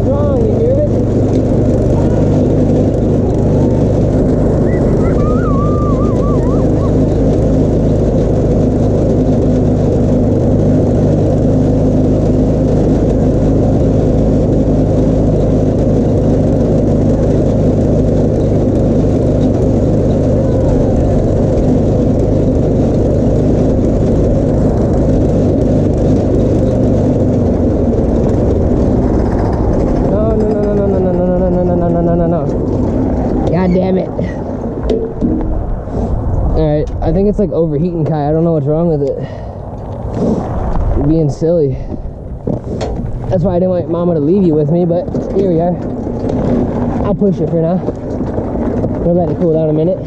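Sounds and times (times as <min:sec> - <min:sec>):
go-kart engine running: 0:00.0 - 0:50.0.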